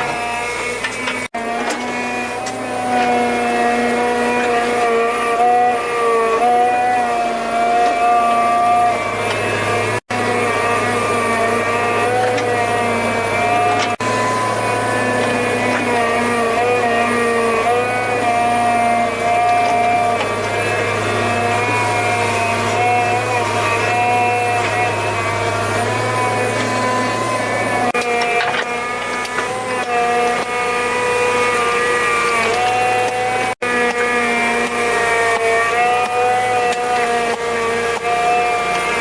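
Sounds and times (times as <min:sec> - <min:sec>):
small engine running: 0:00.0 - 0:39.0.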